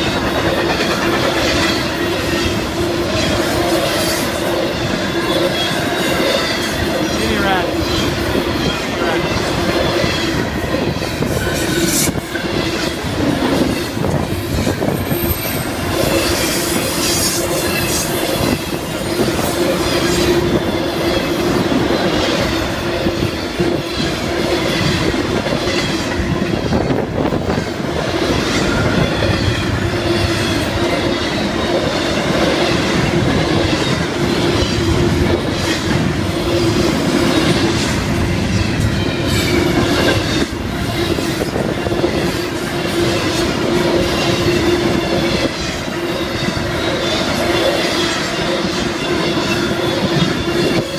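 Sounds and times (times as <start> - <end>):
ringing wheels on rail: 0.0 - 50.9.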